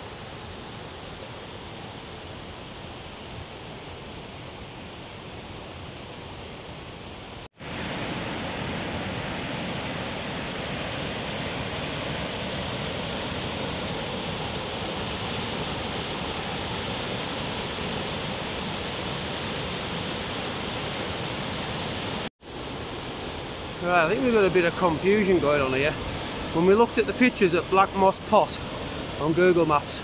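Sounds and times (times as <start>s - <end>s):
stream rushing over rapids: 0.0s - 30.0s.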